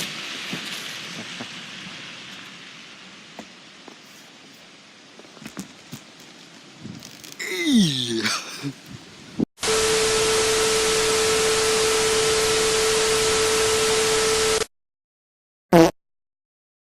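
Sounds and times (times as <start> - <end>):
loud static hiss: 0.0 - 14.7.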